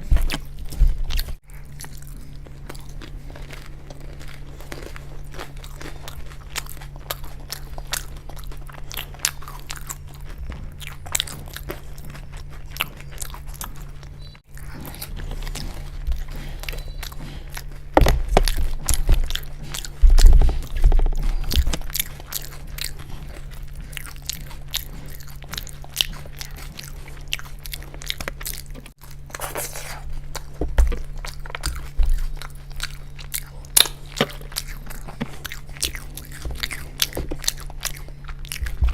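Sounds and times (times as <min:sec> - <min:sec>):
crunching fried food: 0:00.0 - 0:38.9
steady low hum: 0:00.0 - 0:38.9
wet chewing: 0:00.0 - 0:38.9.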